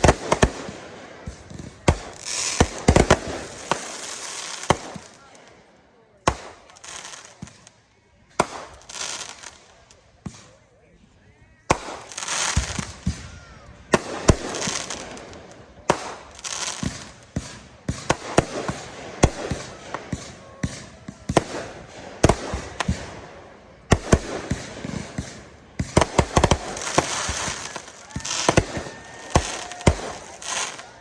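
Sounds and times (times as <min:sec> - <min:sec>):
fireworks bangs: 0:00.0 - 0:05.6, 0:06.2 - 0:10.6, 0:11.6 - 0:31.0
fireworks crackling hiss: 0:00.0 - 0:10.6, 0:11.7 - 0:31.0.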